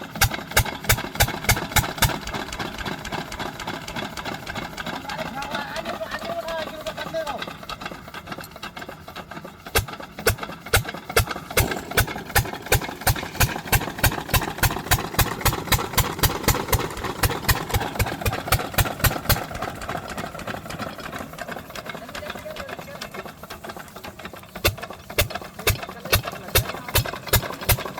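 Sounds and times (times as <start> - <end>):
diesel pump engine running: 0.0 - 27.9
sharp engine knocking: 0.0 - 27.9.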